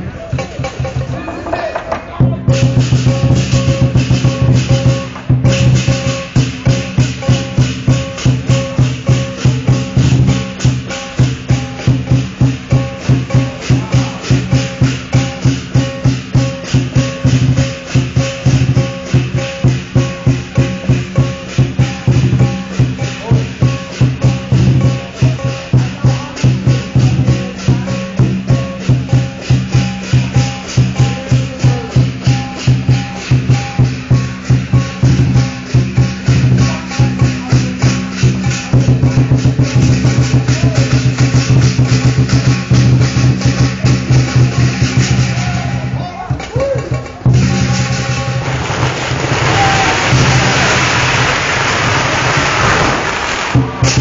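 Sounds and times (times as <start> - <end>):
drum beating fast rhythm: 0.0 - 51.7, 53.5 - 54.0
clashing cymbals: 2.4 - 54.0.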